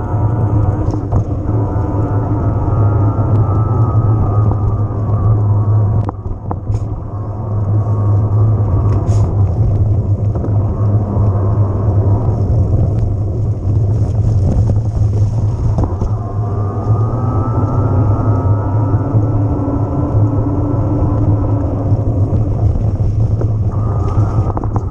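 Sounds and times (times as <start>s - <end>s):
tyres rolling over trail: 0.0s - 24.9s
wind on microphone: 0.0s - 24.9s.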